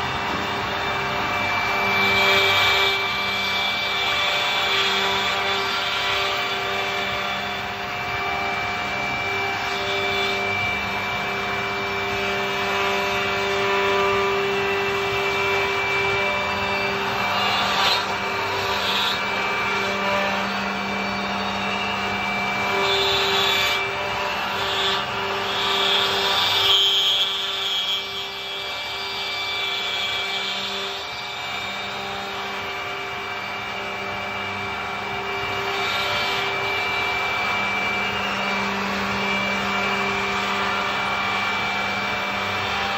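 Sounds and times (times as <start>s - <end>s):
cutters rasping on wood: 0.0s - 42.9s.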